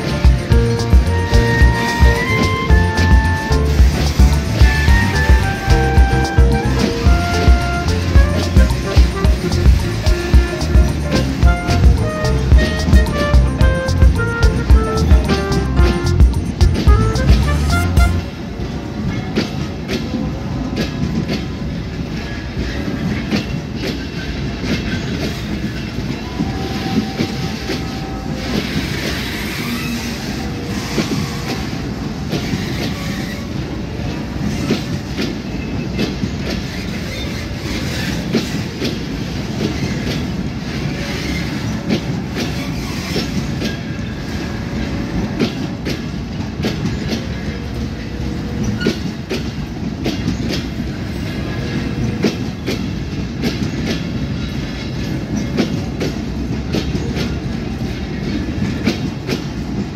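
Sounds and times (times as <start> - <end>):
wheels clicking over rail joints: 0.0 - 17.4, 19.2 - 59.9
steel wheels rumbling on rail: 0.0 - 59.9.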